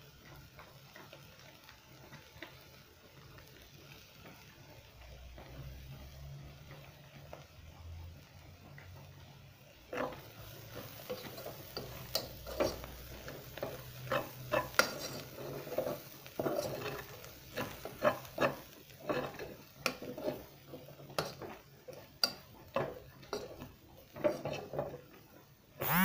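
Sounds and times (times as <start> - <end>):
beans sizzling in oil: 0.0 - 26.0.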